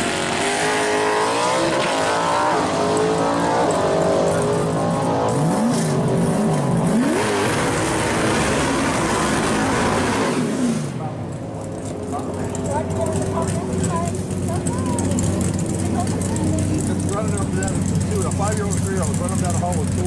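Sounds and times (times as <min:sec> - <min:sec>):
car engine revving: 0:00.0 - 0:20.0
tires spinning: 0:00.0 - 0:20.0.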